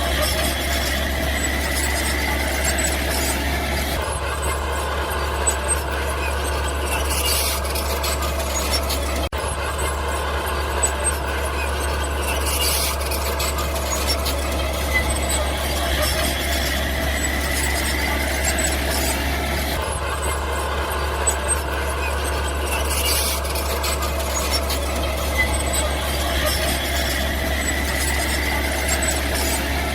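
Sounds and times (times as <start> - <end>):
bulldozer engine hum: 0.0 - 29.9
tracks squealing: 0.0 - 29.9.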